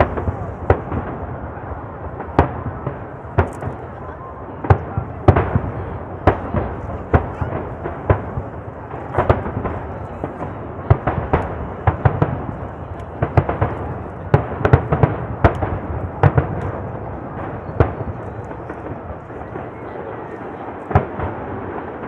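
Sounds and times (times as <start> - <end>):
fireworks booming: 0.0 - 22.0
fireworks display background noise: 0.0 - 22.0.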